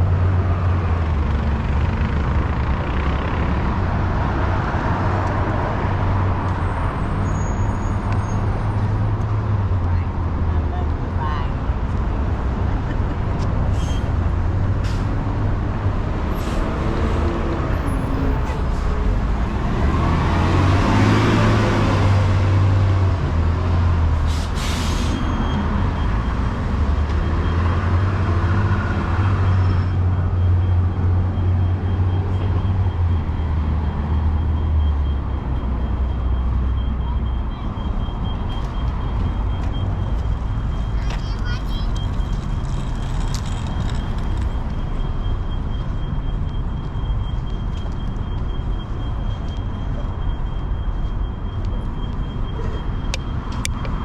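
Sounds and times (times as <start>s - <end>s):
heavy vehicle engine rumble: 0.0s - 54.0s
street traffic: 0.0s - 54.0s.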